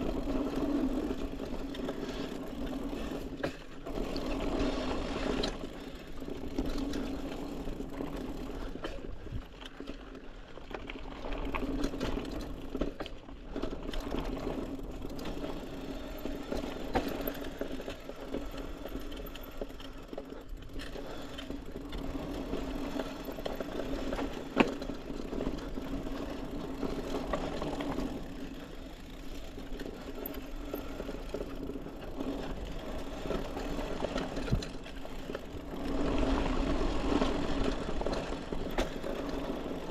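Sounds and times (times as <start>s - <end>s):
bike tyres rolling on dirt: 0.0s - 39.9s.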